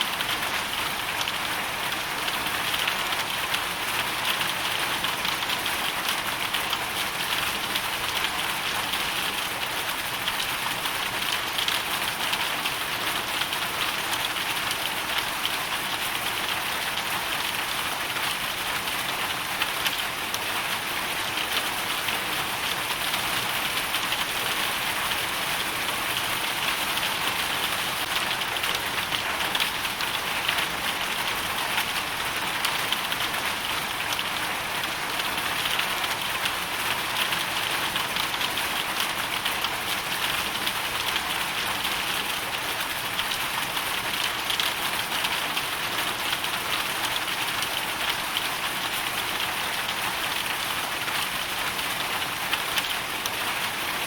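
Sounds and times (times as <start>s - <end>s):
hail and rain pattering: 0.0s - 54.0s.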